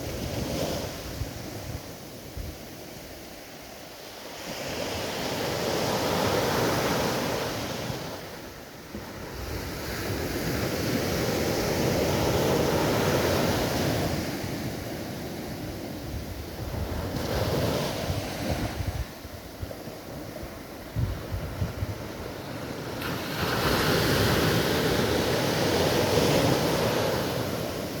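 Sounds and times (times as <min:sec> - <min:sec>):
waves surging and washing back: 0:00.0 - 0:28.0.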